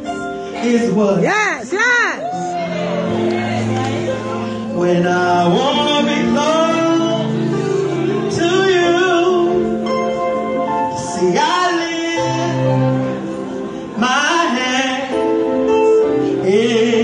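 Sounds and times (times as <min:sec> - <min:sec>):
held accompaniment chords: 0:00.0 - 0:17.0.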